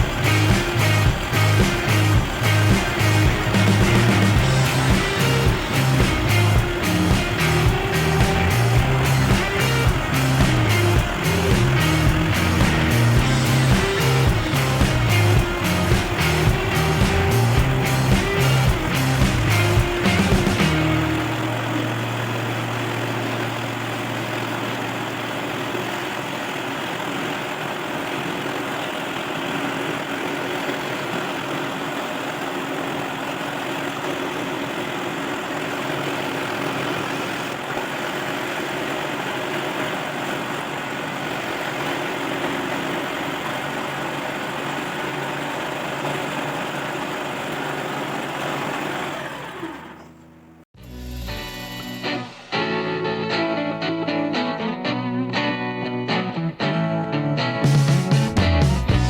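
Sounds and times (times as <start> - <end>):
electric jigsaw running: 0.0 - 50.3.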